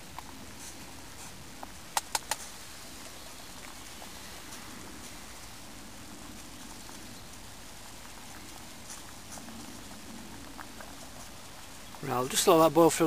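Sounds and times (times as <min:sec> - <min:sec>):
water boiling with faint pops: 0:00.0 - 0:13.0.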